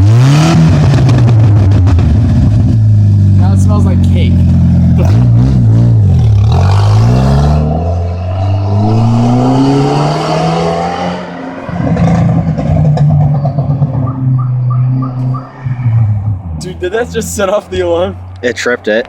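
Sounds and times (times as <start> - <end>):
loud car engine revving: 0.0 - 17.3.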